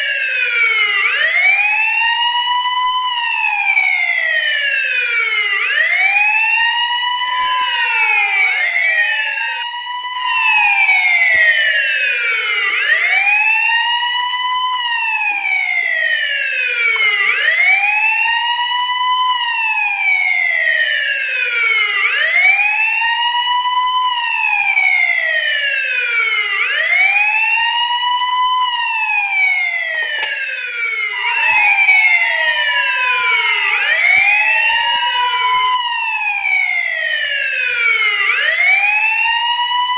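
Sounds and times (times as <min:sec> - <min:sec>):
police siren wailing: 0:00.0 - 0:39.9
second siren wail: 0:00.0 - 0:39.9.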